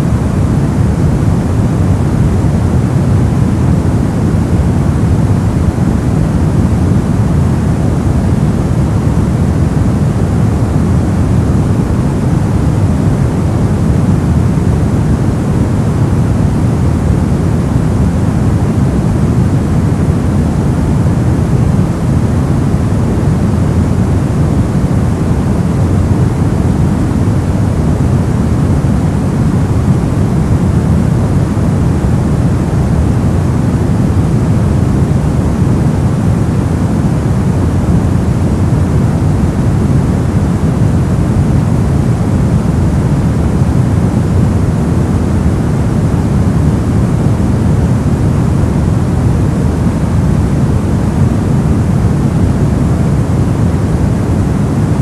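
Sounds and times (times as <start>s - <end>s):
brown noise rumbling hiss: 0.0s - 55.0s.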